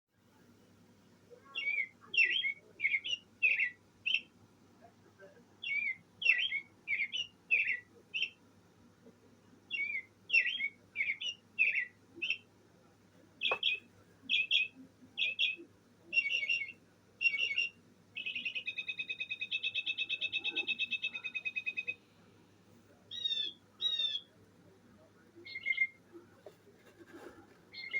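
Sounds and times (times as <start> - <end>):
recorded bird songs from speaker: 1.2 - 8.5, 9.1 - 22.2, 22.9 - 27.9.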